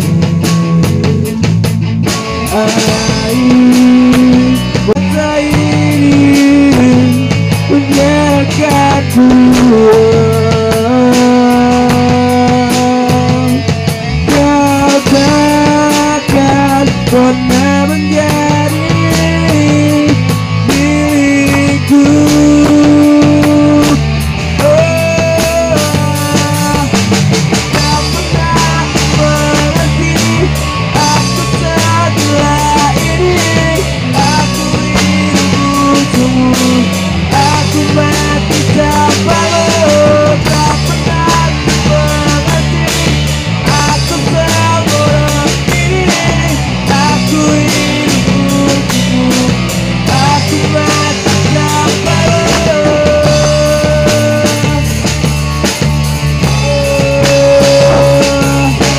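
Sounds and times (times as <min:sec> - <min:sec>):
drum kit: 0:00.0 - 0:58.9
electric bass: 0:00.0 - 0:58.9
melodic lead line: 0:00.0 - 0:58.9.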